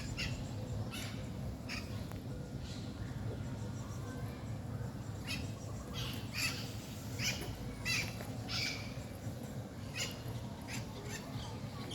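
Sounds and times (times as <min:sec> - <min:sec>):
birds giving harsh calls: 0:00.0 - 0:02.8, 0:05.1 - 0:11.9.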